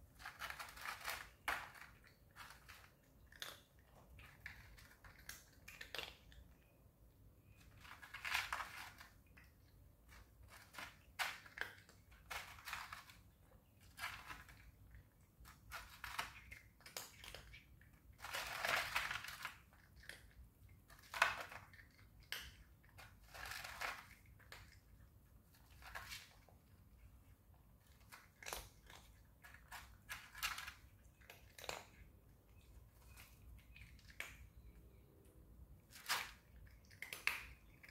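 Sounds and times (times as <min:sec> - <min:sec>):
cat crunching food: 0:00.0 - 0:06.7, 0:07.4 - 0:37.9.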